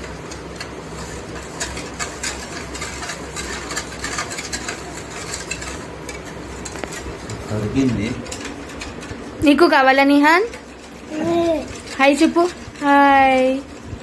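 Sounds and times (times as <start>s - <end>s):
steady low hum: 0.0s - 14.0s
whisk clicking in steel bowl: 0.0s - 14.0s.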